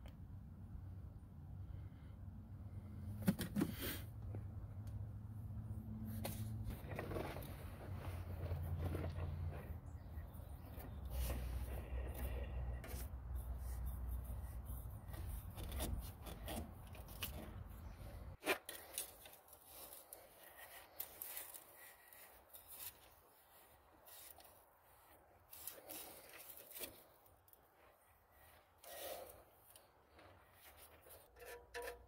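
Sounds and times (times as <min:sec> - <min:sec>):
wrench strap scraping filter: 0:06.2 - 0:32.0.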